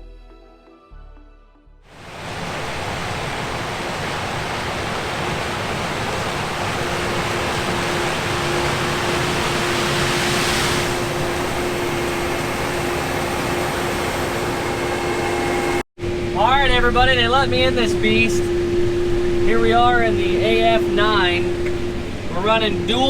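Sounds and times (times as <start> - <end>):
combine harvester running: 2.3 - 23.0.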